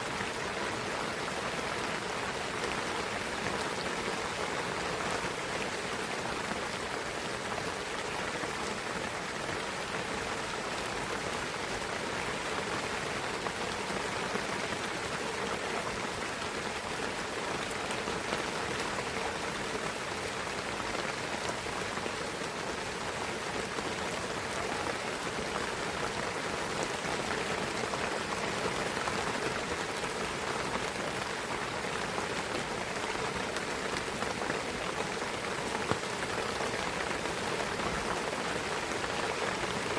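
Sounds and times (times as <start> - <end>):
rain pattering on trees: 0.0 - 39.9.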